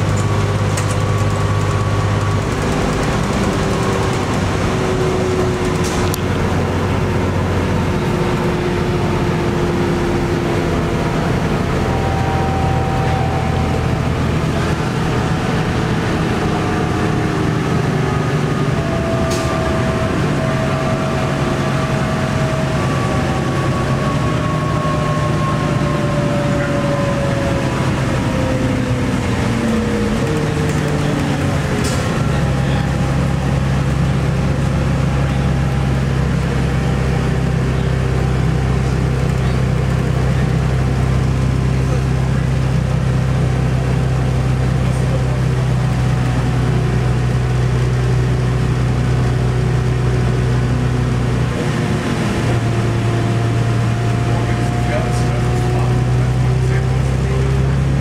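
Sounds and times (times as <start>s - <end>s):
diesel bus running: 0.0s - 58.0s
road noise: 0.0s - 58.0s.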